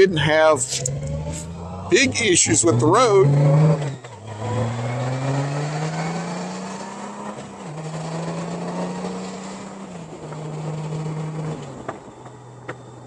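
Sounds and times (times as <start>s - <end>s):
road and wind noise: 0.0s - 13.0s
motorcycle engine accelerating: 0.4s - 12.4s.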